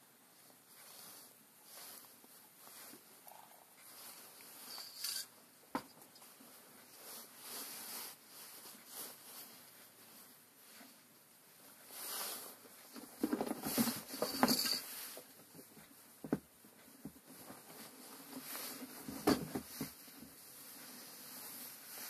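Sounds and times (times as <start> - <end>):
cloth rustling and scraping: 0.5 - 5.4, 6.2 - 22.0.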